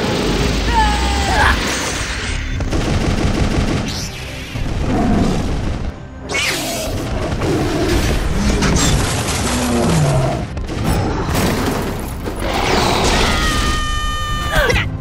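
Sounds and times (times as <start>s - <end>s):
rapid gunfire: 0.0s - 12.0s
background music: 0.0s - 15.0s.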